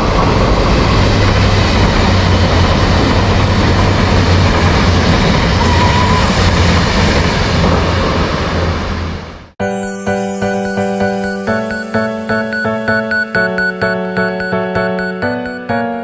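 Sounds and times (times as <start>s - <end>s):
metro train rumble: 0.0s - 15.4s.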